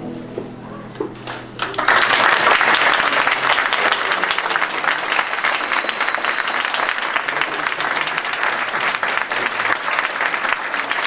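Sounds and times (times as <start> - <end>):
audience applause: 1.2 - 11.0.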